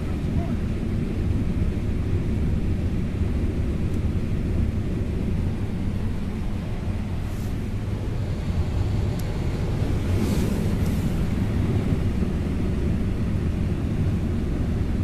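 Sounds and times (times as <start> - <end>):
combine harvester rumbling: 0.0 - 15.0.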